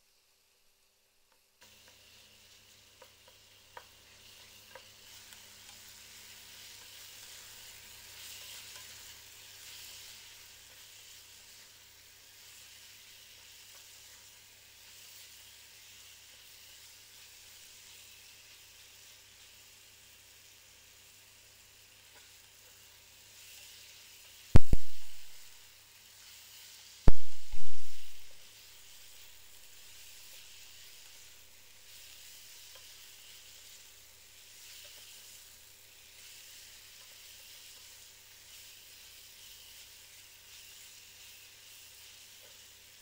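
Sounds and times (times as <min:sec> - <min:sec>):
minced meat sizzling: 0:00.0 - 0:43.0.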